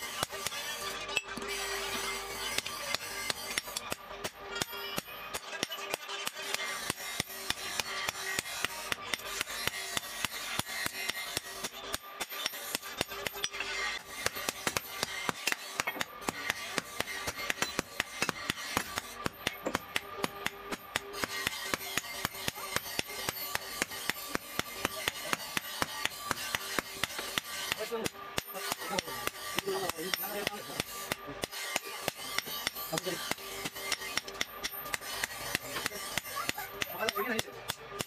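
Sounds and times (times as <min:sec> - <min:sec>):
hammer striking metal on anvil: 0:00.1 - 0:38.0.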